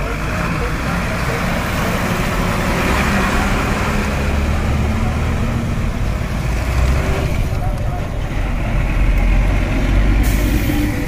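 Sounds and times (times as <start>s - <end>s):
lorry diesel engine rumbling: 0.0s - 11.0s
road noise: 0.0s - 11.0s.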